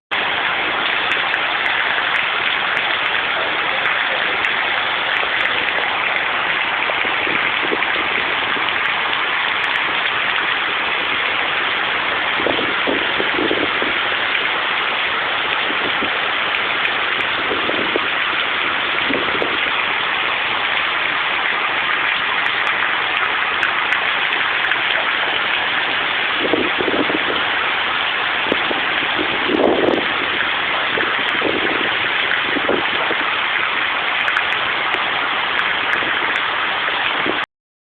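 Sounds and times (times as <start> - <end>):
heavy rain falling: 0.1 - 37.5.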